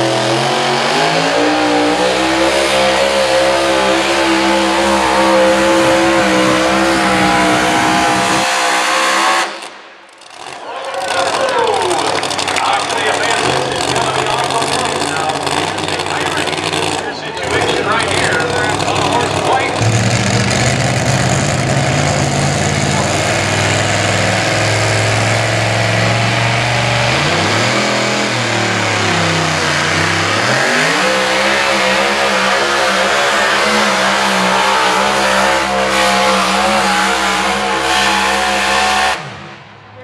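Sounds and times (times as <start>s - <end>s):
truck engine revving under load: 0.0s - 39.8s.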